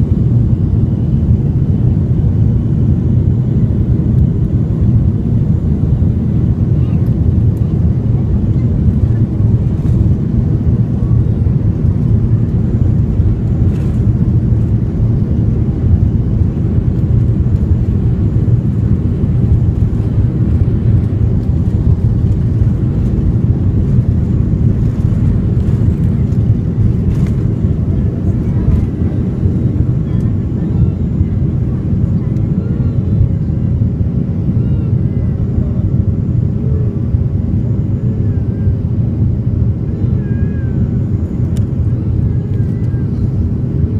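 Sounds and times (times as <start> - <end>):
jet engine drone in cabin: 0.0 - 43.9.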